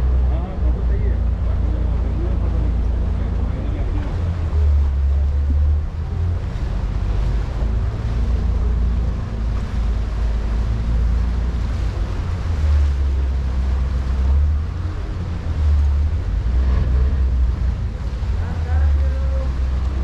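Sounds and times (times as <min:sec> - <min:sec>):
deep boat engine drone: 0:00.0 - 0:20.0
water washing past hull: 0:00.0 - 0:20.0.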